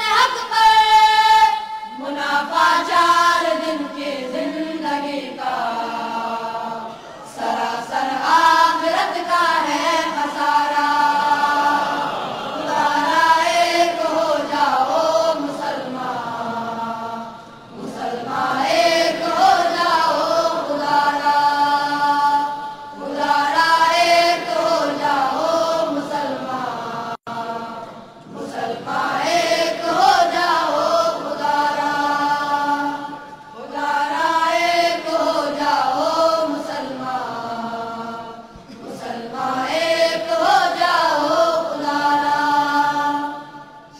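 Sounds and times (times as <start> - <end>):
unaccompanied vocal chant: 0.0 - 43.9.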